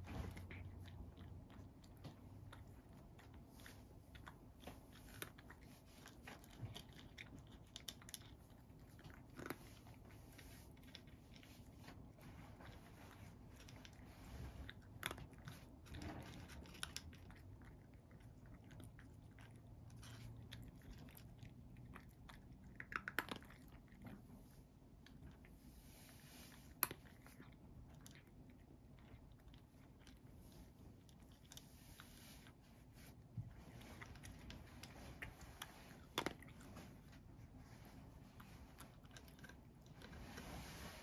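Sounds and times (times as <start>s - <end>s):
cat crunching dry kibble: 0.0s - 25.6s, 26.2s - 40.7s.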